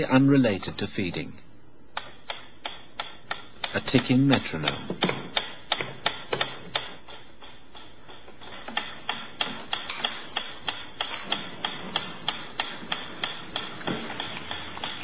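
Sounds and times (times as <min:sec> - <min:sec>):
metronome ticking: 0:01.9 - 0:15.0.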